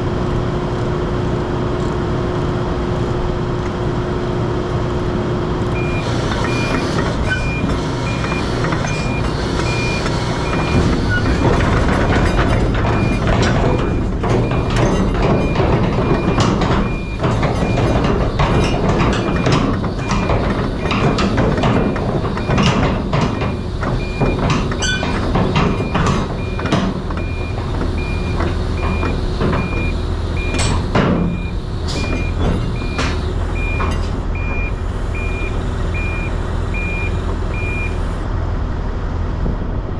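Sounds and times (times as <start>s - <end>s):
truck engine running: 0.0s - 39.9s
clanks and knocks: 5.8s - 38.2s
reversing alarm beeping: 5.8s - 38.2s.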